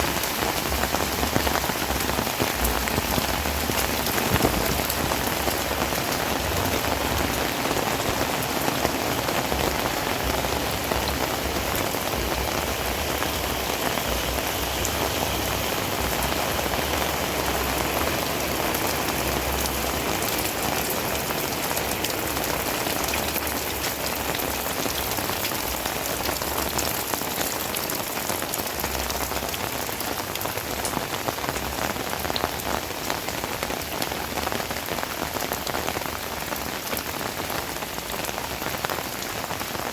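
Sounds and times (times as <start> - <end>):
close raindrop impacts: 0.0 - 39.9
heavy rain falling: 0.0 - 39.9.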